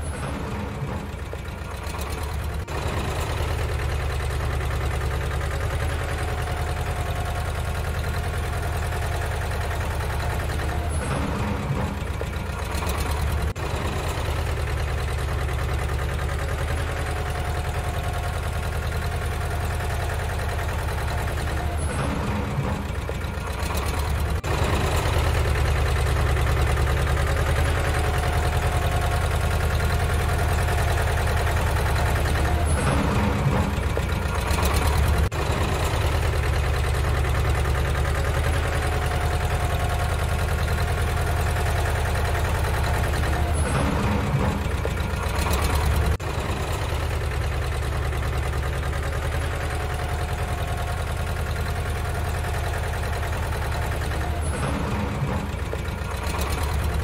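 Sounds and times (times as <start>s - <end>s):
engine idling rumble: 0.0s - 57.0s.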